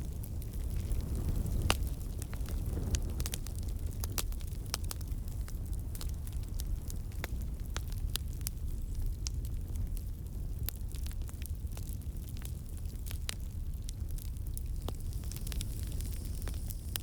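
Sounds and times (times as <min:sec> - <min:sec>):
campfire flames roaring: 0:00.0 - 0:17.0
fire crackling and popping: 0:00.0 - 0:17.0.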